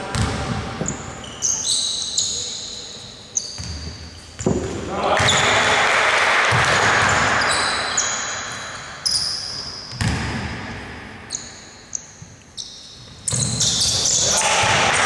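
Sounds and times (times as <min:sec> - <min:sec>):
sneaker squeaks: 0:00.1 - 0:05.6, 0:07.0 - 0:10.5, 0:11.2 - 0:14.5.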